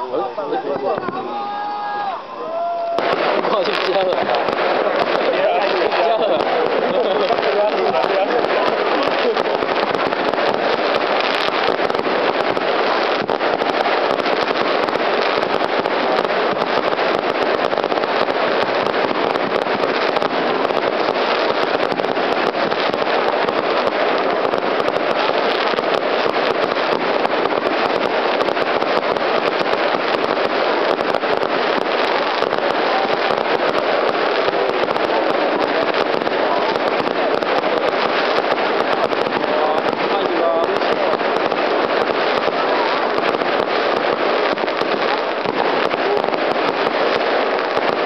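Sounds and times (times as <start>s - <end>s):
fireworks crackling and banging: 0.0s - 48.0s.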